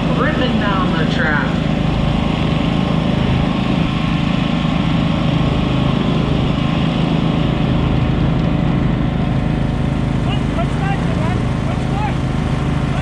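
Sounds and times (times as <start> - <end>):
garden tractor engine under load: 0.0 - 13.0.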